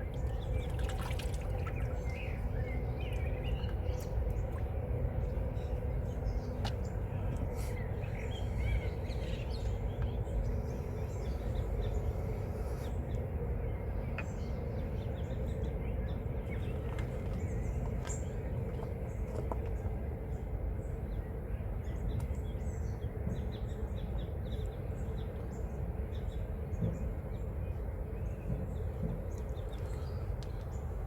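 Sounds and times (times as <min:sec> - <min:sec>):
low outdoor rumble: 0:00.0 - 0:31.0.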